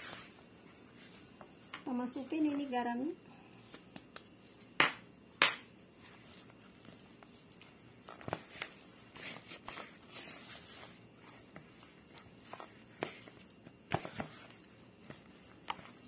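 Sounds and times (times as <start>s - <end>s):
hand mixing bread dough: 0.0s - 16.0s.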